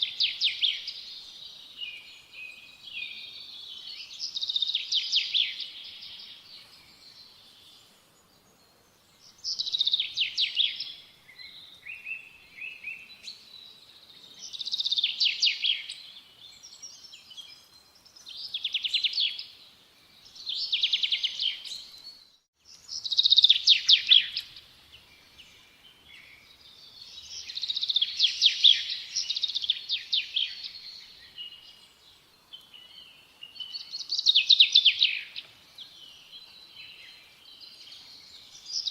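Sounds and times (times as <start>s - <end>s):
songbird singing trilled phrases: 0.0s - 7.8s, 9.2s - 38.9s.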